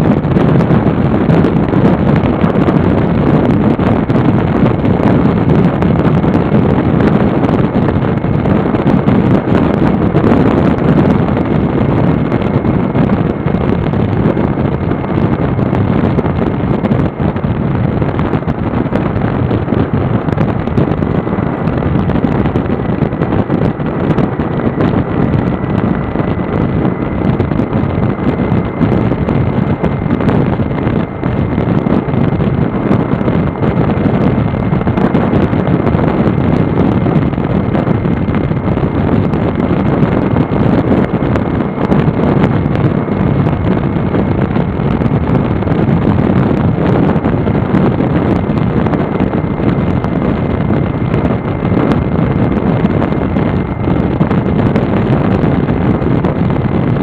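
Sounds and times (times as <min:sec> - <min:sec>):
motorcycle engine running: 0:00.0 - 0:57.0
wind buffeting the microphone: 0:00.0 - 0:57.0.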